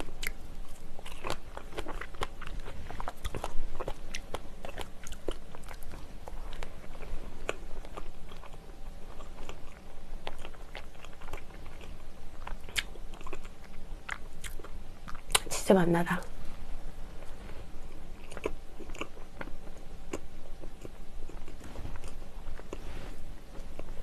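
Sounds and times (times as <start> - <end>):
chewing with wet mouth clicks: 0.0 - 15.5, 18.2 - 22.8.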